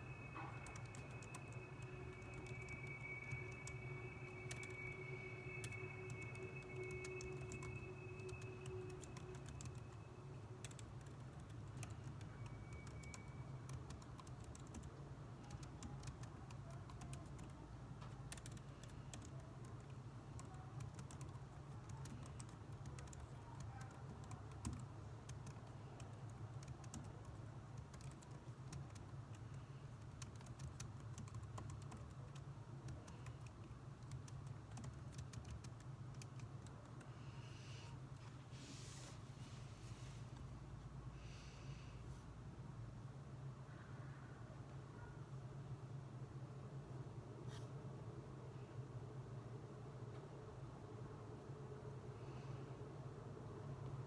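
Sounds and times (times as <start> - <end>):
low background hum: 0.0 - 54.0.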